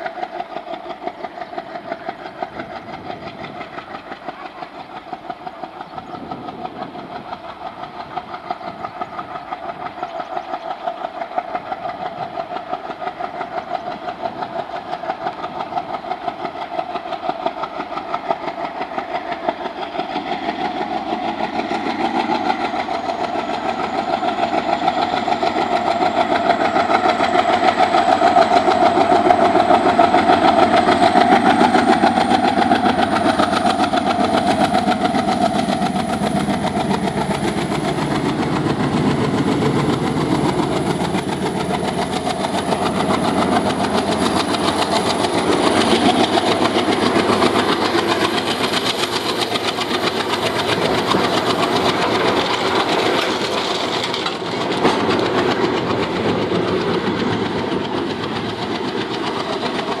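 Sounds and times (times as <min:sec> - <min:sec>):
diesel locomotive engine chugging: 0:00.0 - 1:00.0.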